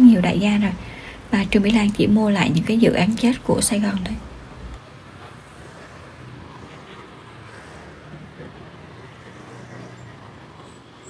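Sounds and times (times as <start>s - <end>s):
city street traffic hum: 0.0s - 11.0s.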